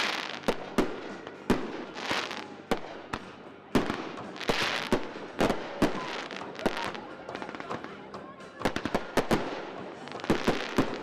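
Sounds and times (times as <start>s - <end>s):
crackling fireworks hiss: 0.0s - 11.0s.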